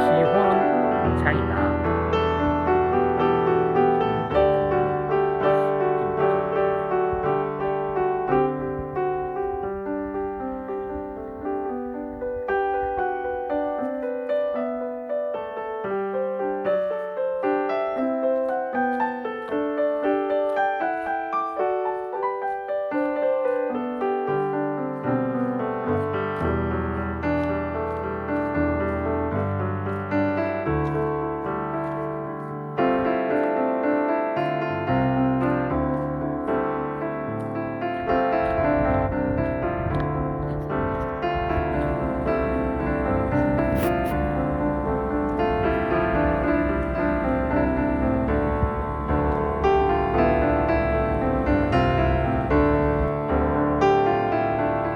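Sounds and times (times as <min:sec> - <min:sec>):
slow gentle piano music: 0:00.0 - 0:54.9.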